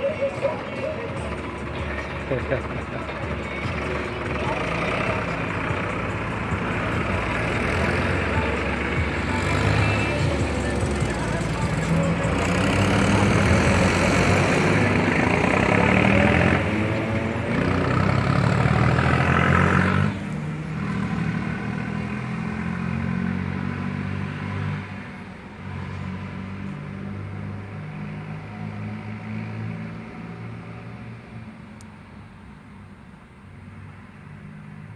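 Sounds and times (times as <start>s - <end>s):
tractor engines driving past: 0.0s - 34.9s.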